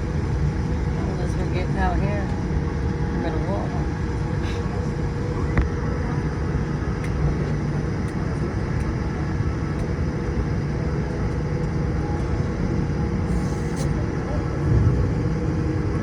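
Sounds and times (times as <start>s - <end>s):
aircraft cabin engine noise: 0.0s - 16.0s.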